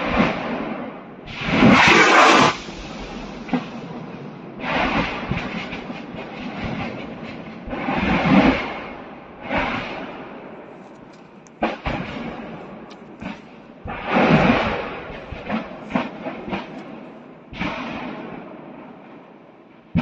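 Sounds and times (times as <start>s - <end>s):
munitions exploding in booms: 0.0s - 10.3s, 11.6s - 19.0s
steady rumbling hiss: 0.0s - 20.0s
sharp cracks: 1.3s - 4.0s, 4.6s - 19.2s.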